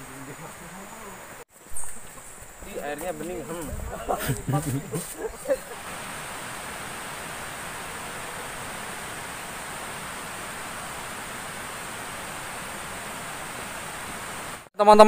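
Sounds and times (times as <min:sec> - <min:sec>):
flowing water rushing: 0:00.0 - 0:14.7.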